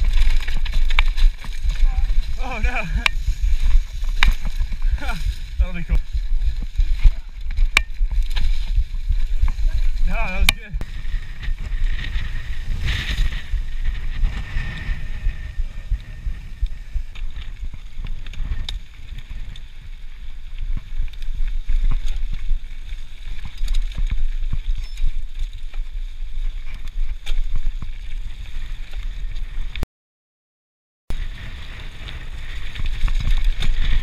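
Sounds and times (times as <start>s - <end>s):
bike rattling over bumps: 0.0s - 29.8s, 31.2s - 34.0s
bike tyres rumbling over dirt: 0.0s - 29.8s, 31.1s - 34.0s
wind noise on microphone: 0.0s - 29.8s, 31.1s - 34.0s.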